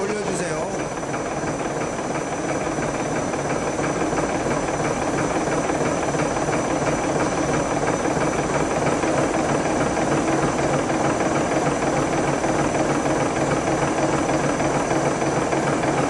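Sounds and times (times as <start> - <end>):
machine whirring: 0.0 - 16.0
steady hum: 0.0 - 16.0.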